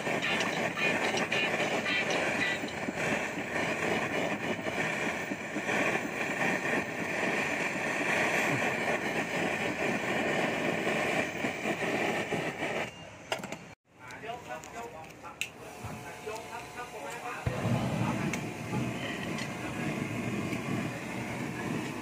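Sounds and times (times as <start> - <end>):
gas torch burning: 0.0 - 13.5, 14.1 - 22.0.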